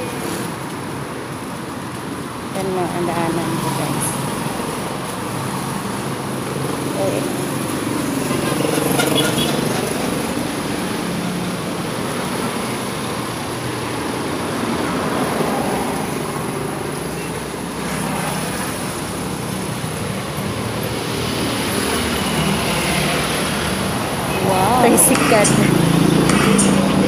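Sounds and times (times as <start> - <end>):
traffic passing by: 0.0 - 27.0.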